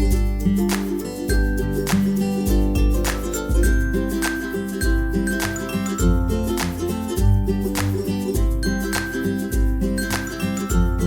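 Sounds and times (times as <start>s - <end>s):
plucked strings music with beat: 0.0s - 11.0s.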